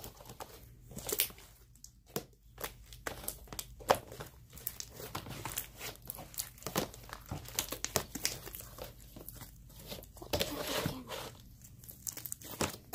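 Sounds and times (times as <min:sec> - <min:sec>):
slime squished by hand: 0:00.8 - 0:12.9.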